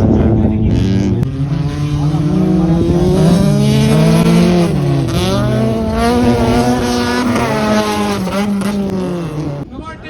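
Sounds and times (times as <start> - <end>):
rally car engine revving high: 0.0 - 9.7.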